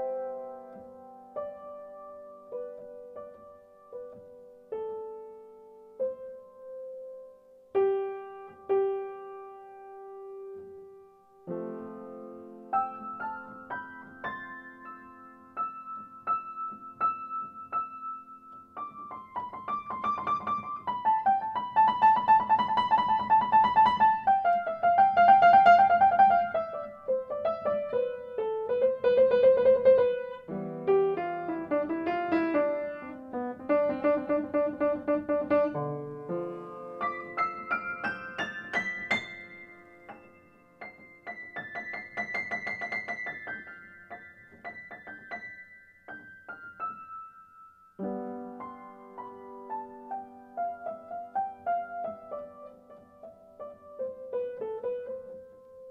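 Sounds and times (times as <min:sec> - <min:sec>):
piano music: 0:00.0 - 0:55.9.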